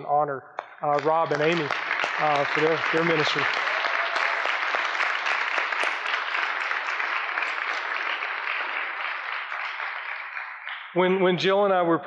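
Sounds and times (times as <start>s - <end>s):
crowd applauding: 0.8s - 11.0s.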